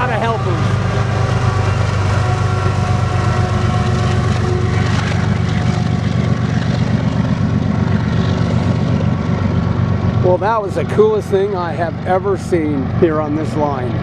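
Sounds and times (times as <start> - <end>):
diesel locomotive engines drone: 0.0 - 14.0
wheels rumbling on rails: 0.0 - 14.0.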